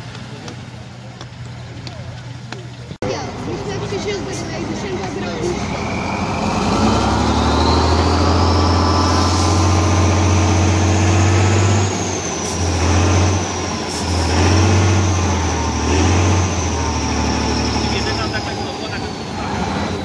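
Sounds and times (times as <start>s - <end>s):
truck engine working hard: 0.0s - 20.0s.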